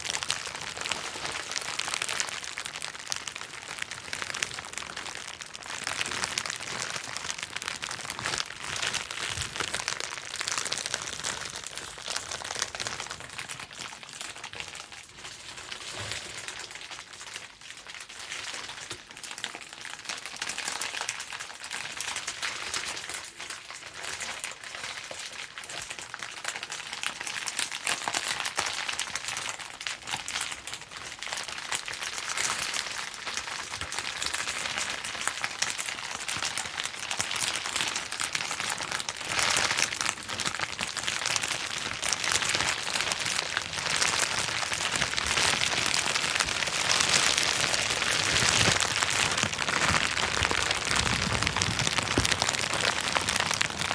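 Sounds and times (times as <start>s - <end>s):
bubble wrap popping and crinkling: 0.0s - 53.9s.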